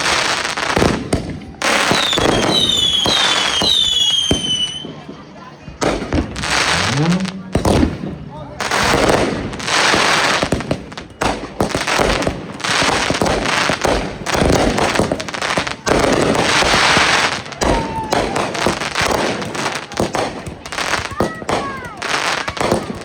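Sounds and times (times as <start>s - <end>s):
firework whistle: 0.0s - 5.2s, 6.0s - 20.0s
fireworks crackling and banging: 0.0s - 23.0s.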